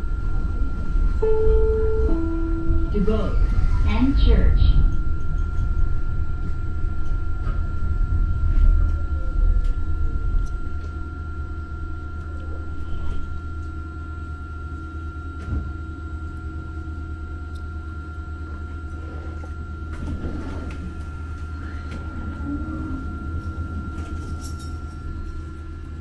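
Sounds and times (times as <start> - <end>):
light-rail car rumble and whine: 0.0 - 26.0.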